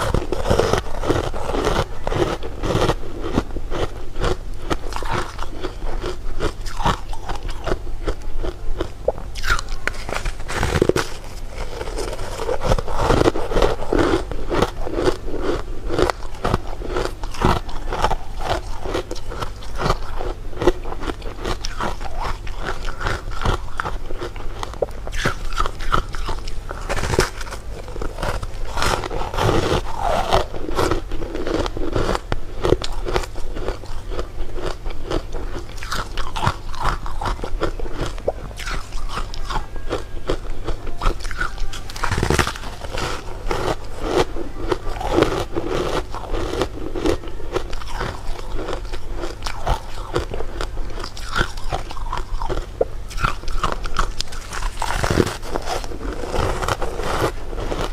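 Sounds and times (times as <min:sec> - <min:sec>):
crunchy candy being chewed: 0:00.0 - 0:57.9.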